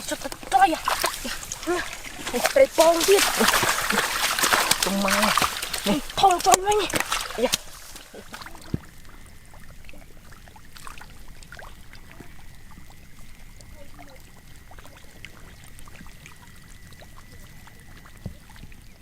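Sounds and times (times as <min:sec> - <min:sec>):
small splashes and clicks: 0:00.0 - 0:19.0
water trickling and pouring: 0:00.0 - 0:19.0.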